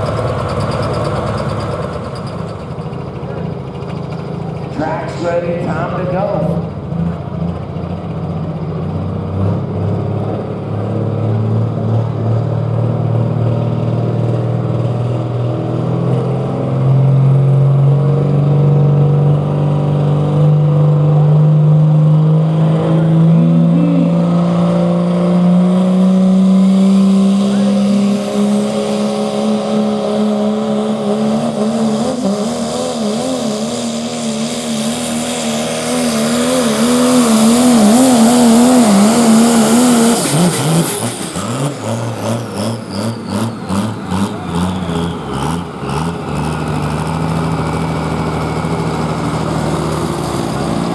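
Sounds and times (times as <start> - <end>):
diesel truck engine at full power: 0.0 - 50.9.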